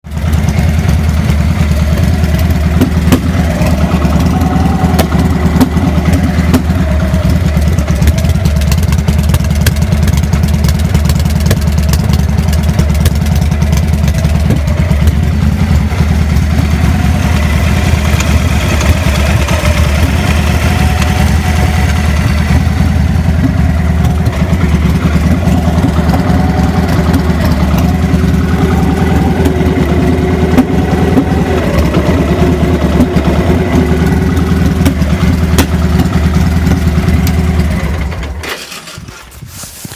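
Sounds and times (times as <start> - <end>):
engine popping: 0.0 - 39.4
motorcycle engine idling roughly: 0.0 - 39.9.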